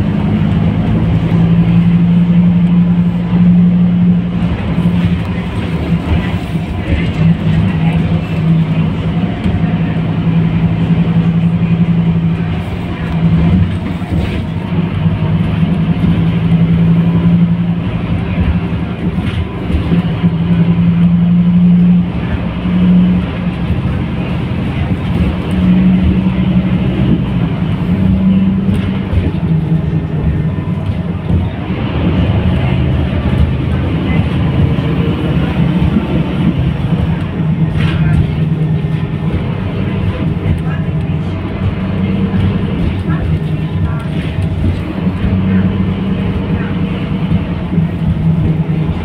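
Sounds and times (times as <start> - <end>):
bus diesel engine drone: 0.0 - 49.0.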